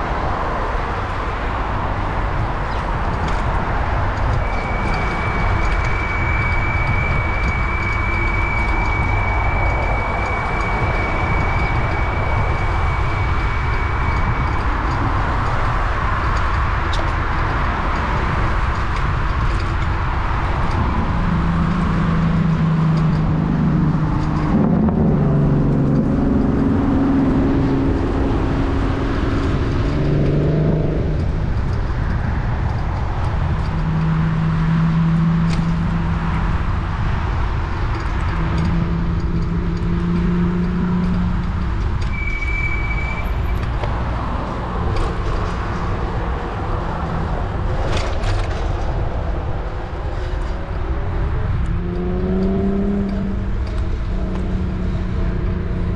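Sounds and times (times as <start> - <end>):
motor vehicles passing: 0.0 - 55.9
wind and road noise rumble: 0.0 - 55.9.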